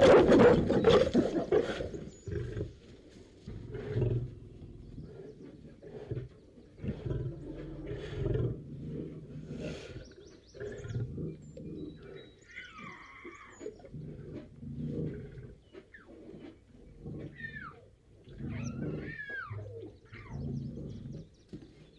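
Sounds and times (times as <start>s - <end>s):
lion roaring: 3.5s - 21.3s.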